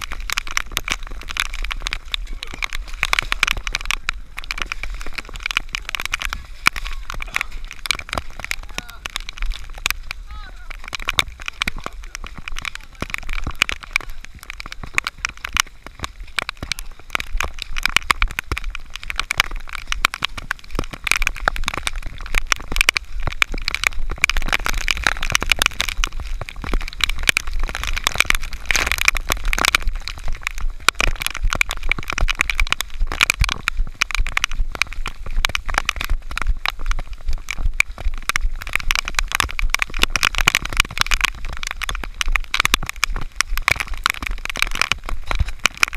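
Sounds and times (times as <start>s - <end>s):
heavy rain hitting camera housing: 0.0s - 45.9s.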